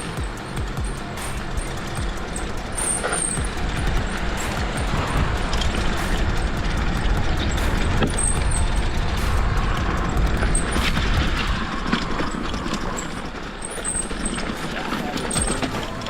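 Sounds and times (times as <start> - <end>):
bike rattling over rough trail: 0.0 - 16.0
sharp clicks and knocks: 0.0 - 16.0
wind buffeting microphone: 0.0 - 16.0.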